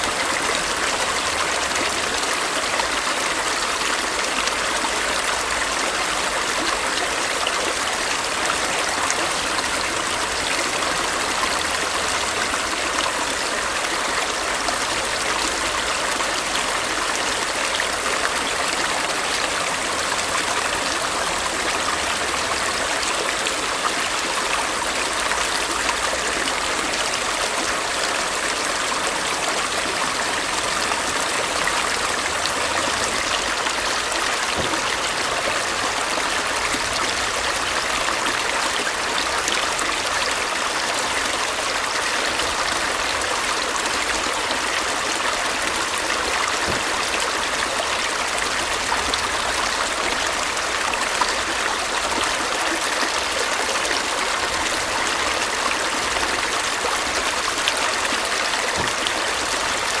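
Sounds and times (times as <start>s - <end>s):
stream flowing and trickling: 0.0s - 60.0s.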